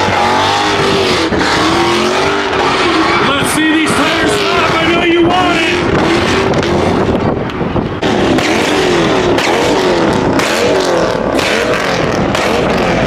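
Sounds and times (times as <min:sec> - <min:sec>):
car engine at high revs: 0:00.0 - 0:13.0
spinning tyres rushing: 0:00.0 - 0:13.0.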